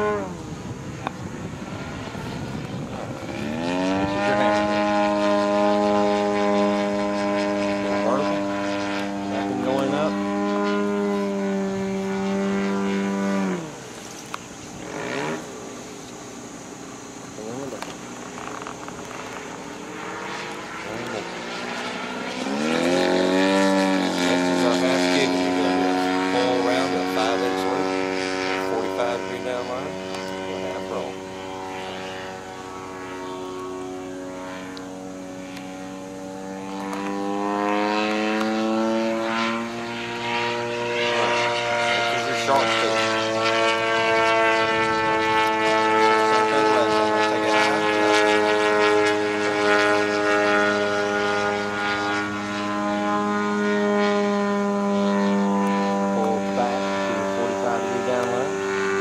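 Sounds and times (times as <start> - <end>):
model airplane engine droning: 0.0 - 59.0.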